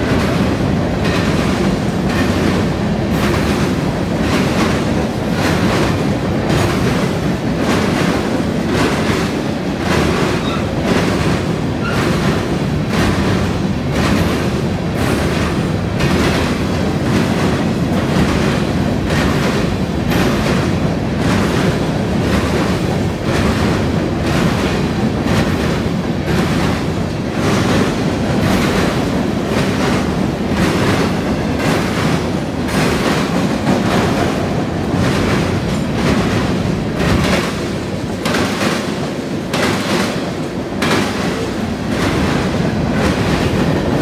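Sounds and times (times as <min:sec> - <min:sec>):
freight train wheels rumbling: 0:00.0 - 0:44.0
wheels clacking on rail: 0:00.0 - 0:44.0.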